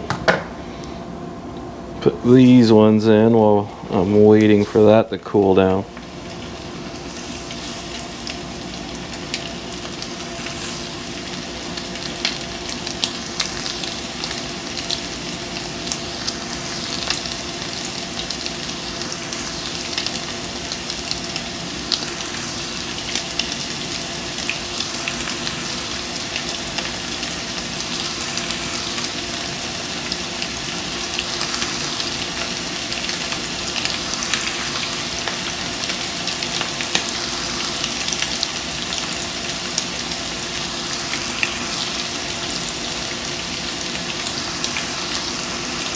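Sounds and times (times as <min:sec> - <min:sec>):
fish deep-frying in oil: 0:05.9 - 0:45.9.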